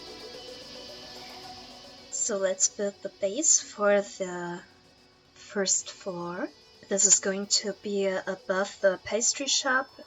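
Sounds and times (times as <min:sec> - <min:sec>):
soft music with held tones: 0:00.0 - 0:10.0.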